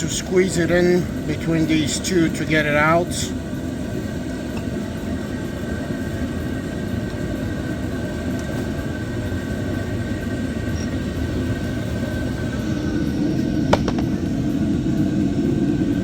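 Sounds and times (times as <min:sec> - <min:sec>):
faint steady whine: 0:00.0 - 0:16.0
low background rumble: 0:00.0 - 0:16.0.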